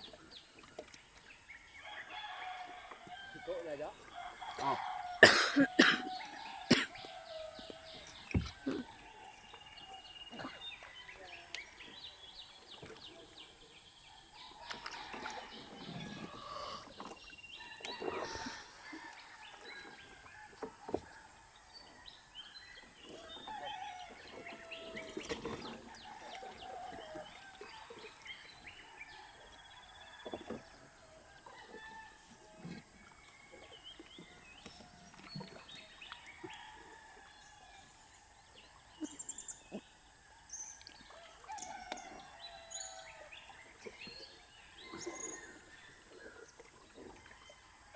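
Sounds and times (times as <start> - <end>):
faint outdoor background noise: 0.0 - 47.9.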